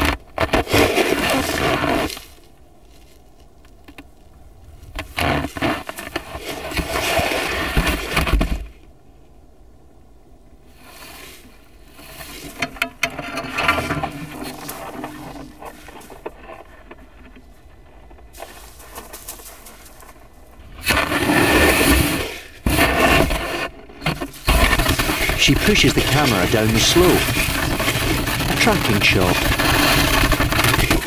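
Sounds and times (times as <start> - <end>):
snow and ice crunching and scraping: 0.0 - 4.0, 4.7 - 8.7, 10.7 - 31.0.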